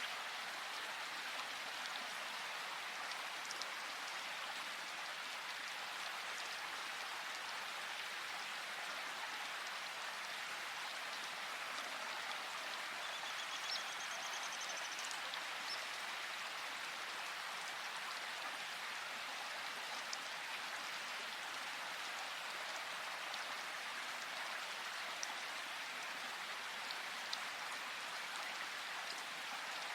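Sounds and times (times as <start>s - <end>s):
rain patter in forest: 0.0s - 29.9s.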